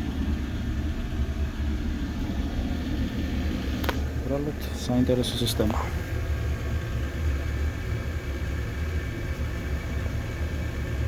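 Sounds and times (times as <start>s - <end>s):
faint high hum: 0.0s - 11.0s
gas burner rumbling: 0.0s - 11.0s.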